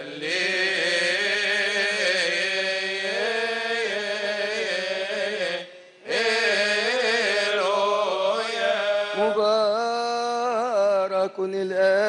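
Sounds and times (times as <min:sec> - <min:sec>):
men chanting: 0:00.0 - 0:10.3.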